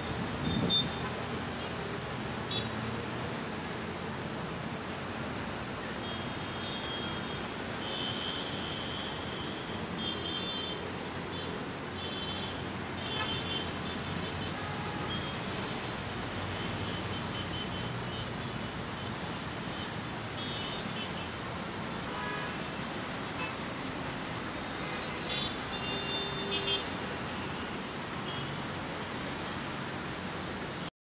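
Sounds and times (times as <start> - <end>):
road traffic noise: 0.0 - 30.9.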